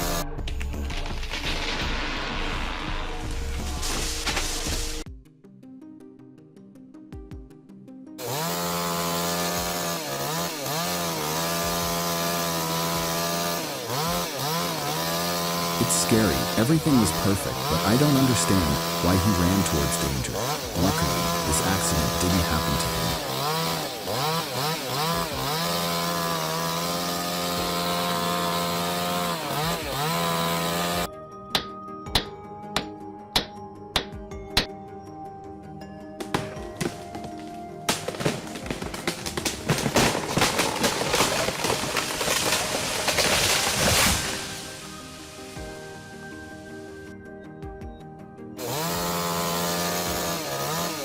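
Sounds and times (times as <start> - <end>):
chainsaw cutting wood: 0.0 - 5.1, 8.2 - 34.7, 36.2 - 47.0, 48.6 - 51.0.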